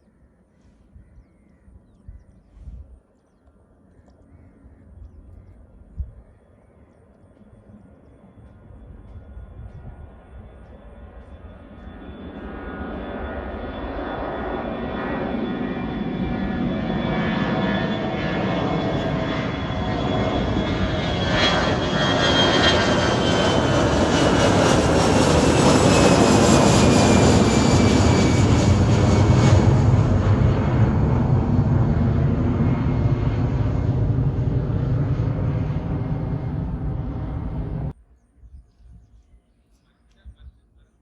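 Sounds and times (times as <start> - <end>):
jet airliner engines roaring: 5.0 - 38.0.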